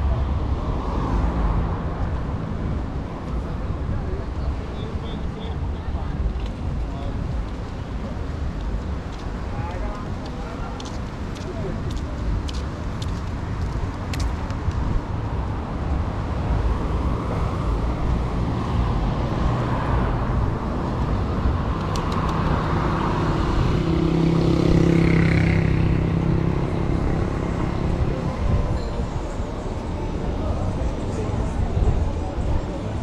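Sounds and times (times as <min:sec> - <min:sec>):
cars passing rumble: 0:00.0 - 0:33.0
vehicle engine hum: 0:00.0 - 0:33.0.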